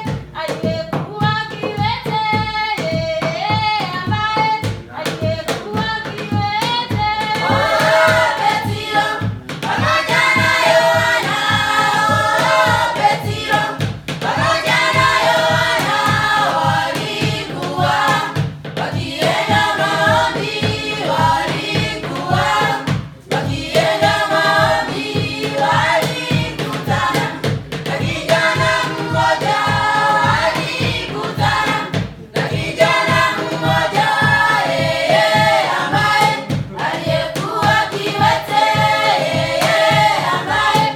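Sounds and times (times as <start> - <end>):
choir singing: 7.3 - 40.9.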